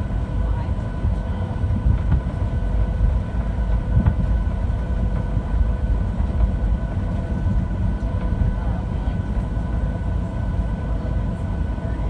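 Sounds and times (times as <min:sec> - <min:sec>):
aircraft cabin rumble: 0:00.0 - 0:12.0
faint jet engine whine: 0:00.0 - 0:12.0.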